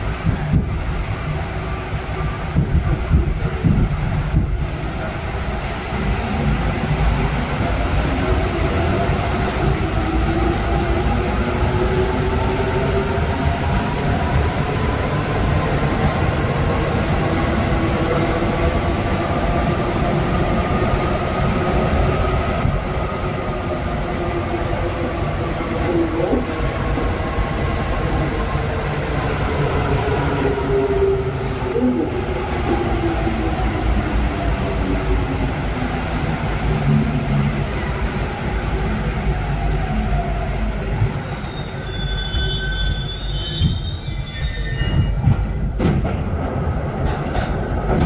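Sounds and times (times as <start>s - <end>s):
metro train rumble: 0.0s - 48.0s.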